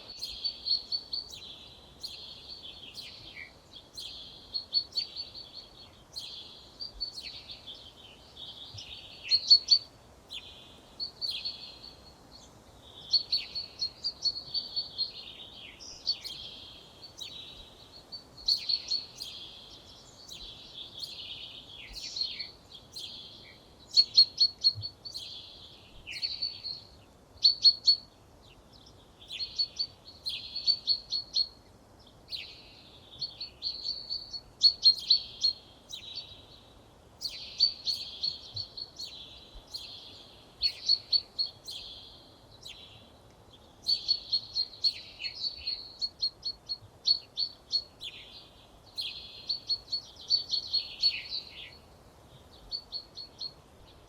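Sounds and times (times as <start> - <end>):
faint low background noise: 0.0 - 54.0
songbirds singing: 0.0 - 54.0.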